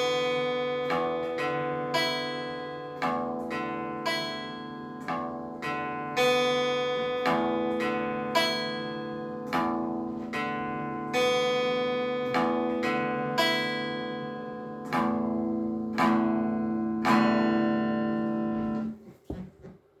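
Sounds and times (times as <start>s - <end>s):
guitar chords strummed slowly: 0.0s - 19.0s.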